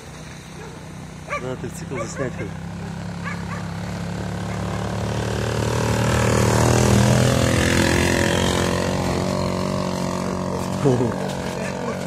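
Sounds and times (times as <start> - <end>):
off-road vehicle engine driving past: 0.0 - 12.0.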